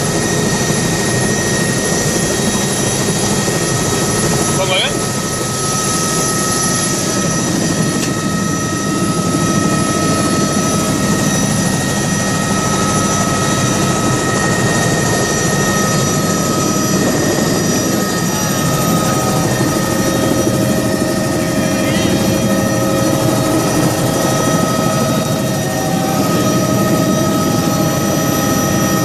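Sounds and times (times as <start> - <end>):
helicopter drone: 0.0 - 29.0.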